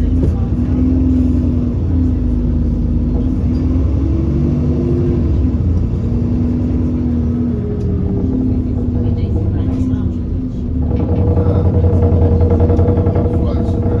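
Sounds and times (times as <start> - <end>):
bus engine rumbling: 0.0 - 14.0
drivetrain whine: 0.0 - 14.0.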